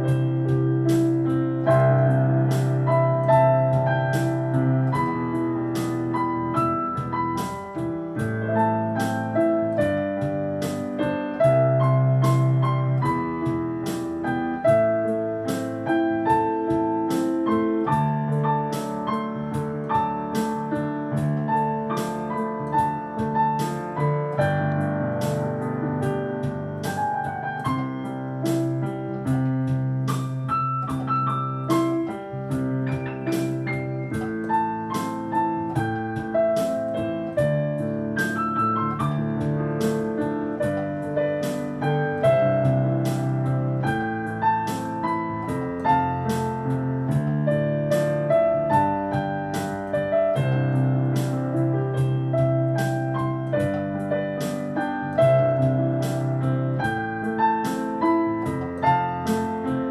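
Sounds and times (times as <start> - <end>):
piano keyboard slow melody: 0.0 - 59.9.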